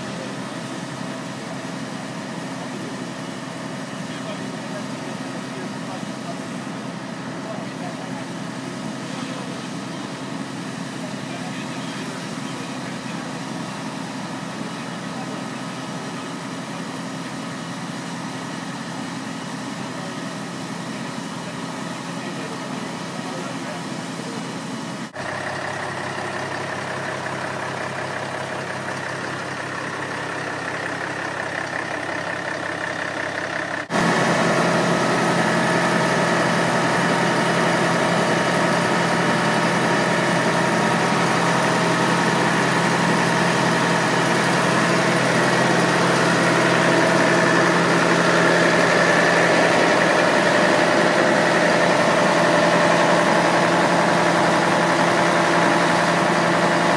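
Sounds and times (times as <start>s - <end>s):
fire engine engine humming: 0.0s - 56.9s.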